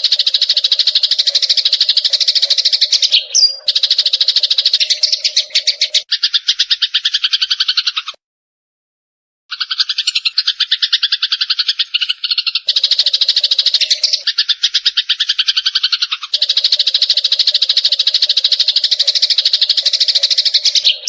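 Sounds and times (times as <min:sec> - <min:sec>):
sparrows chattering chirps: 0:00.0 - 0:08.2, 0:09.5 - 0:21.0.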